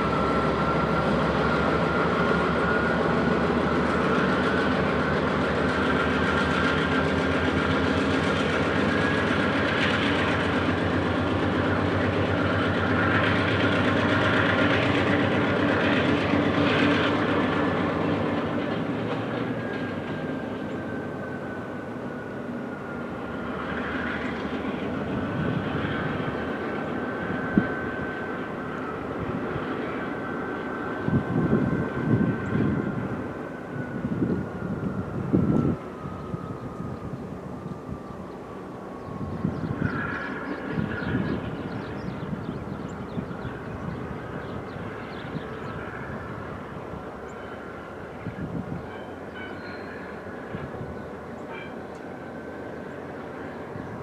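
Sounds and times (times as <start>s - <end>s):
train wheels clicking and rumbling: 0.0s - 54.0s.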